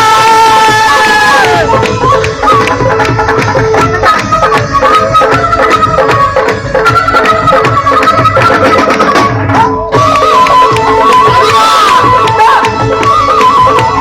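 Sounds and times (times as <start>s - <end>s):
hand drum rhythm: 0.0s - 14.0s
winding melody instrument: 0.1s - 14.0s.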